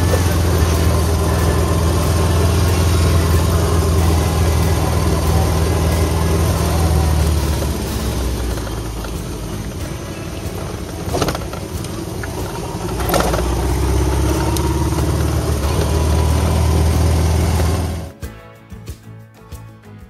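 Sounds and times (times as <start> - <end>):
motorcycle engine running: 0.0 - 18.1
music: 0.0 - 20.0.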